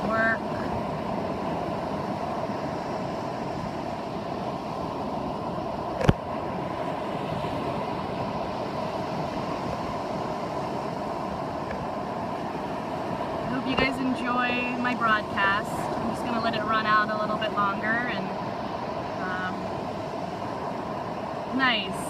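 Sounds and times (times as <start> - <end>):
ocean surf: 0.0 - 22.0
wind noise: 0.0 - 22.0.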